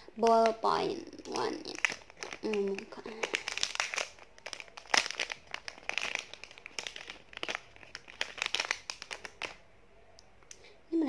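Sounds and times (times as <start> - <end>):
plastic wrapper crinkling: 0.2 - 9.6.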